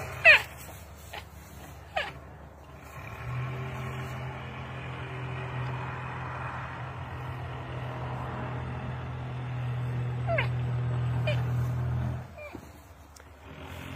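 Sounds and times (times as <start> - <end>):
low engine hum: 0.0 - 13.9.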